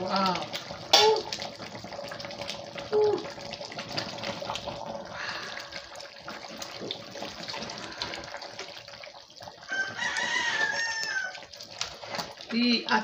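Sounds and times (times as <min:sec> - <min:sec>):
thick soup churning: 0:00.0 - 0:13.0.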